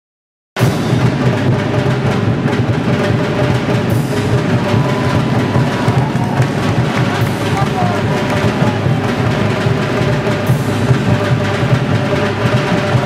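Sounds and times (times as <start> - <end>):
music with fast dense drumming: 0.6 - 13.0.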